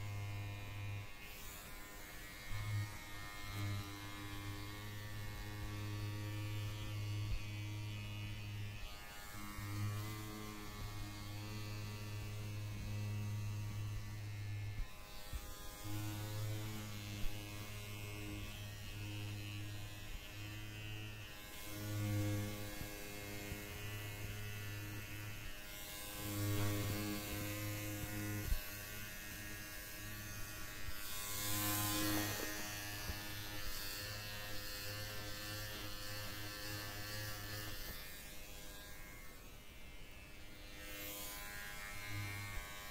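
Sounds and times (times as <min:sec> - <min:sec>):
electric hair clippers buzzing: 0:00.0 - 0:42.9.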